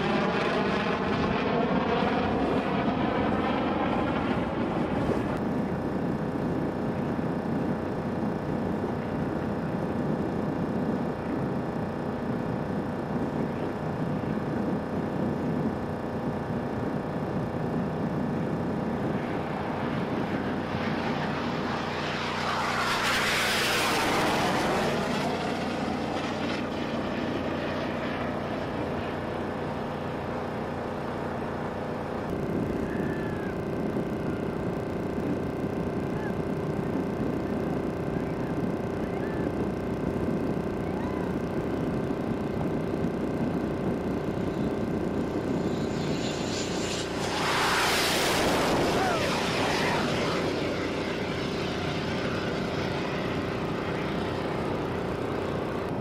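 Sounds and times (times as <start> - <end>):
jet flying low overhead: 0.0 - 56.0
steady droning hum: 0.0 - 56.0.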